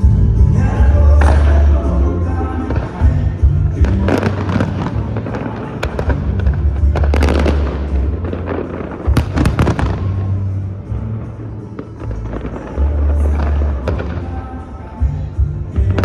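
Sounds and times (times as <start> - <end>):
bass-heavy music: 0.0 - 16.0
fireworks bursting and crackling: 0.9 - 16.0.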